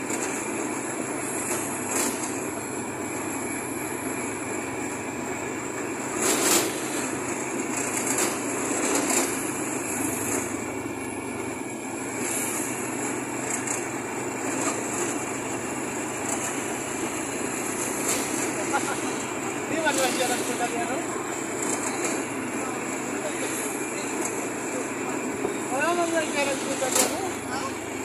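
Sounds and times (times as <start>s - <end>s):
road rumble: 0.0s - 28.0s.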